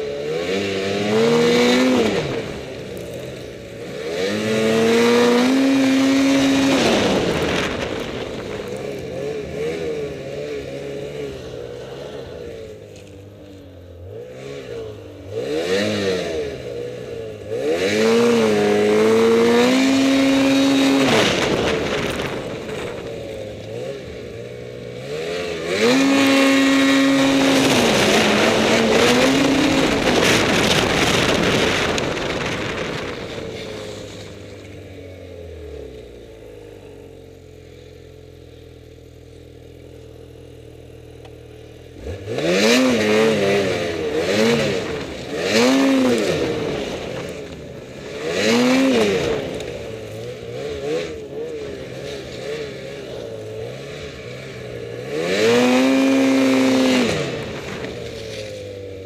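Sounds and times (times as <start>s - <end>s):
snowmobile engine revving: 0.0s - 40.3s, 41.7s - 59.0s.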